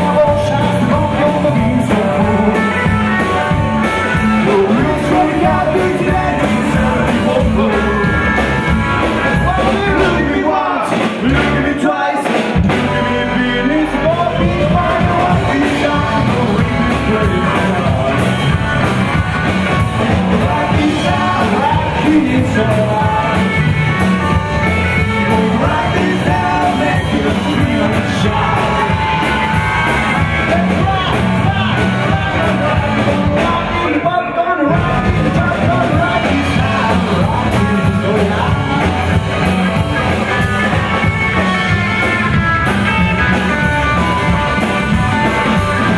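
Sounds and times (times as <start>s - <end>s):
man singing and shouting: 0.0s - 45.9s
rockabilly band playing live: 0.0s - 45.9s.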